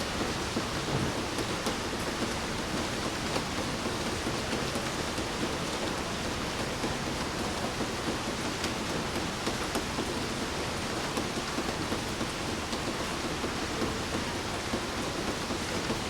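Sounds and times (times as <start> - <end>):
raindrops ticking: 0.0 - 16.0.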